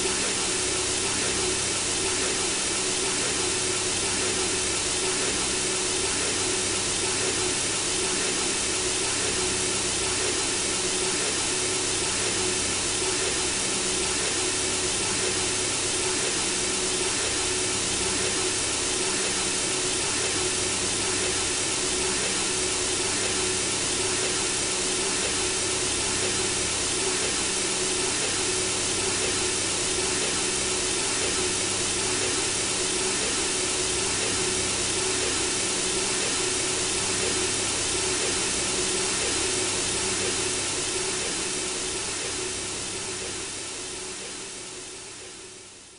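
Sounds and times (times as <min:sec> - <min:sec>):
white noise hiss: 0:00.0 - 0:45.9.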